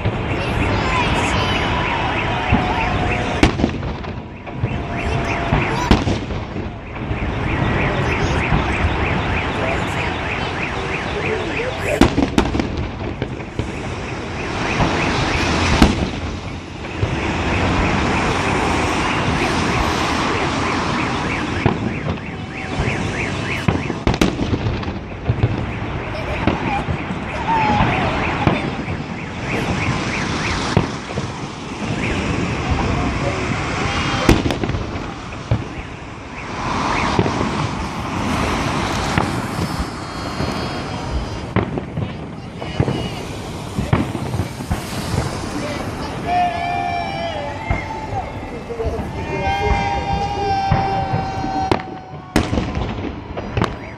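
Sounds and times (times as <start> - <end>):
fireworks crackling: 0.0 - 53.9
sharp firework bangs: 0.0 - 53.9
car alarm warbling: 0.2 - 34.2, 34.9 - 44.5.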